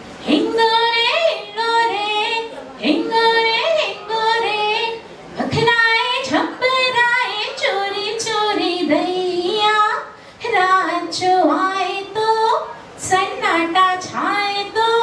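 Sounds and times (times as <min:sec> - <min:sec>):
woman singing into a microphone: 0:00.2 - 0:15.0.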